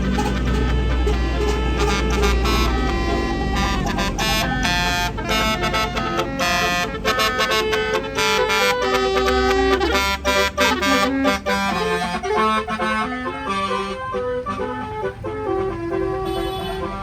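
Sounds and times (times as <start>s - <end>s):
low rumble of a bus: 0.0s - 17.0s
multi-trumpet bus horn melody: 0.0s - 17.0s.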